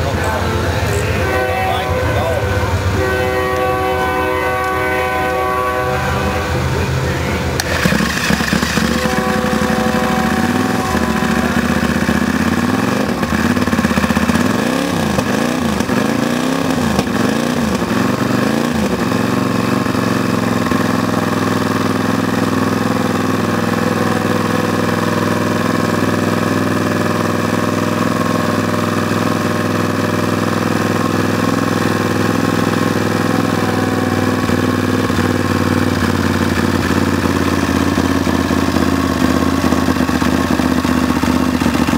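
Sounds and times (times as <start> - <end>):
lawnmower engine revving and idling: 0.0 - 41.9.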